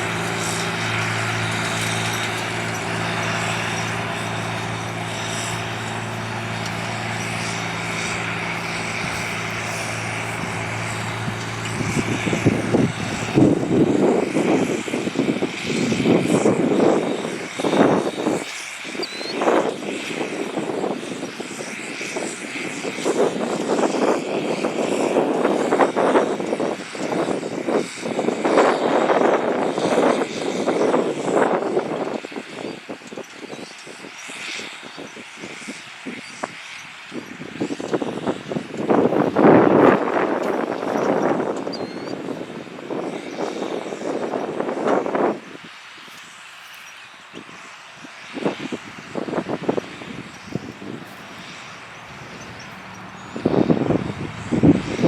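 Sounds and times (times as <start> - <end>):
rushing gusts: 0.0 - 55.0
tractor diesel engine drone: 0.0 - 55.0.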